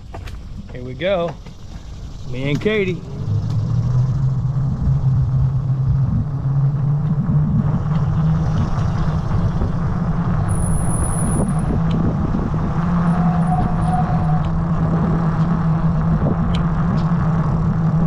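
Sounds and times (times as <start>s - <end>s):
rough ride rumble: 0.0s - 18.0s.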